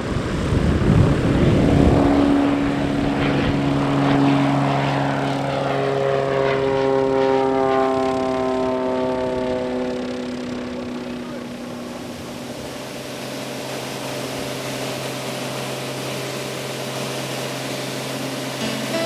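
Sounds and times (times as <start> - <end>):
propeller airplane flying past: 0.0 - 19.0.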